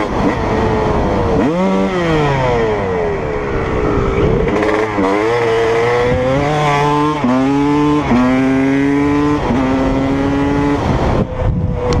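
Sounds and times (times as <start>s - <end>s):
dirt bike engine revving: 0.0s - 11.3s
wind on microphone: 0.0s - 12.0s.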